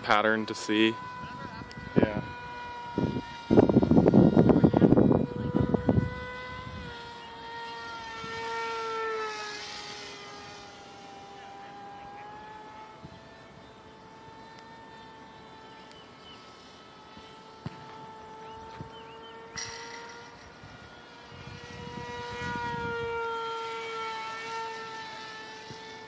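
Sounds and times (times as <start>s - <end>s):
electric motor and propeller whining: 0.0s - 26.0s.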